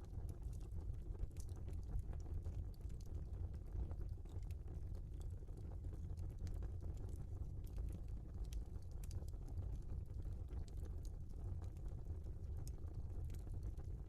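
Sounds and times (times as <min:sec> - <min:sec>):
fire flames rumbling: 0:00.0 - 0:14.0
logs crackling and popping: 0:00.0 - 0:14.0.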